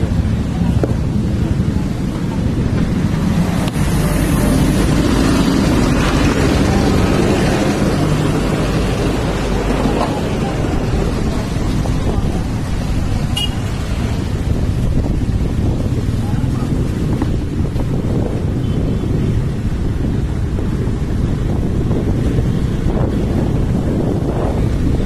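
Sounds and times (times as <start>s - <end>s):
vehicle engine and road rumble: 0.0s - 25.0s.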